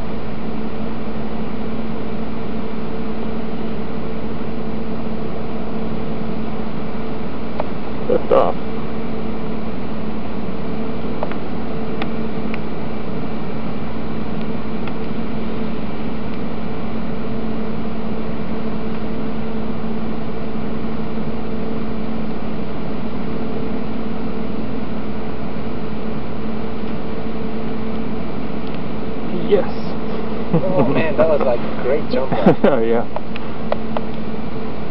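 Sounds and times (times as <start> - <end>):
constant hiss: 0.0 - 34.9
steady machine hum: 0.0 - 34.9.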